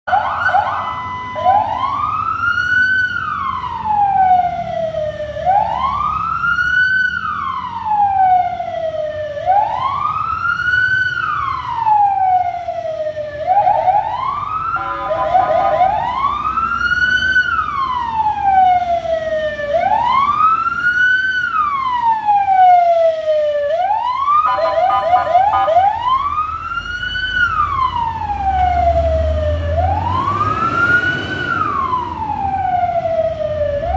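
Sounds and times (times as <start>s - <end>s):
fire truck siren wailing: 0.1s - 33.9s.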